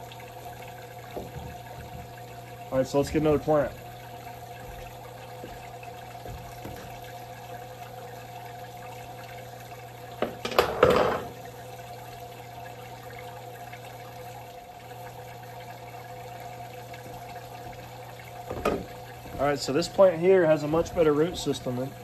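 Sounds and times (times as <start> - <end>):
pump humming: 0.0 - 22.0
water trickling: 0.0 - 22.0.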